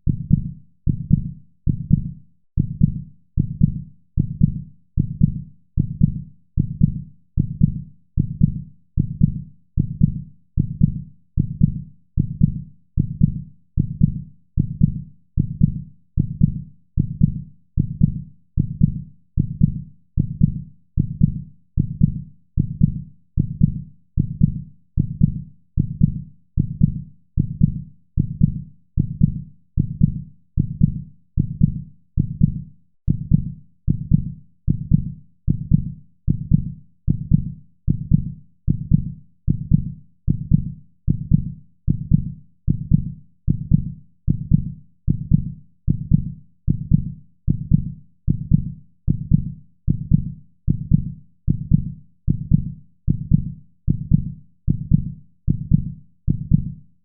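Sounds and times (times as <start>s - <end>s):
heartbeat thumps: 0.1s - 56.7s.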